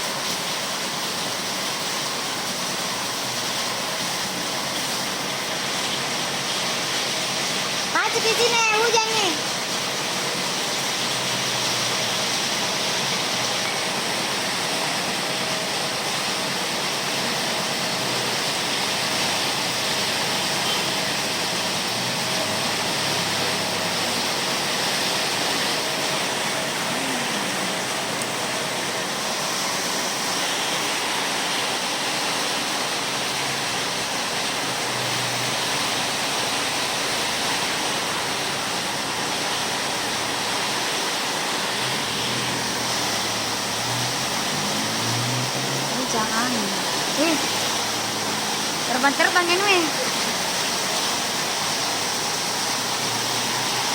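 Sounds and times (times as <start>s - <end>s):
rain in strong wind: 0.0s - 53.9s.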